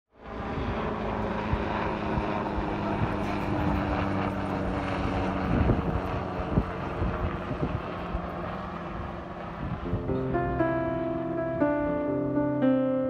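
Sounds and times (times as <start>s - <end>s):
helicopter flying overhead: 0.1s - 13.0s.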